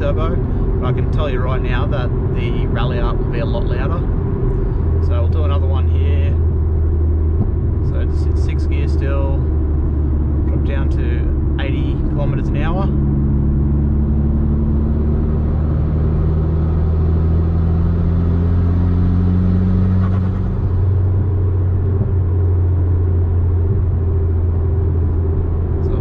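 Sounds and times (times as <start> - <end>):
car engine drone: 0.0 - 26.0
road noise: 0.0 - 26.0.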